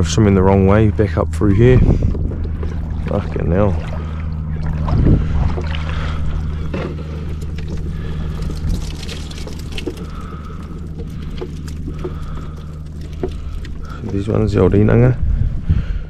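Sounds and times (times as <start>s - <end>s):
water splashing and trickling: 0.0s - 15.2s
steady low rumble: 0.0s - 16.0s.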